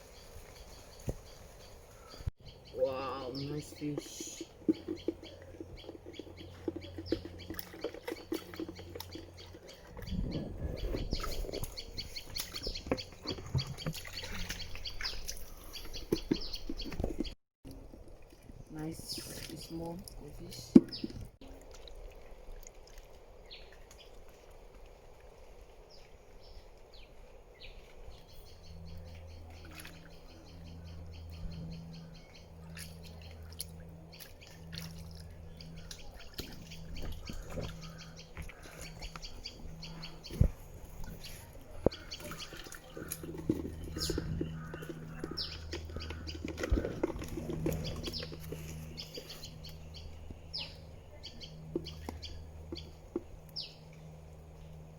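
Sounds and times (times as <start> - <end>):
birds chirping: 0.0 - 17.4, 18.8 - 21.3, 25.9 - 54.9
low hum: 0.0 - 54.9
water splashing and dripping: 3.0 - 31.6, 32.5 - 50.4.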